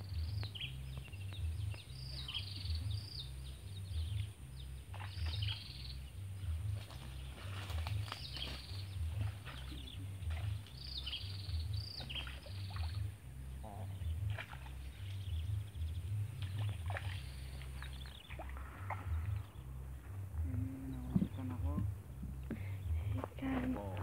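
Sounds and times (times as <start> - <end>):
birds chirping: 0.0 - 24.0
low rumble: 0.0 - 24.0.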